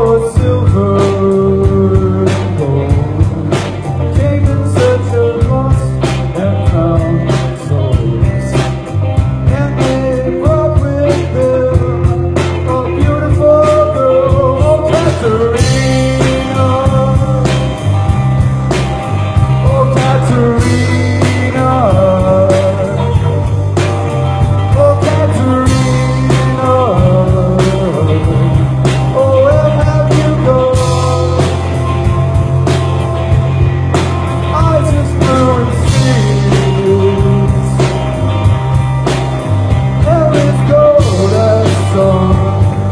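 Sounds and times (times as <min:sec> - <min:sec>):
bass: 0:00.0 - 0:42.9
bending melodic lead line: 0:00.0 - 0:42.9
drums steady beat: 0:00.0 - 0:42.9
rock band playing live: 0:00.0 - 0:42.9.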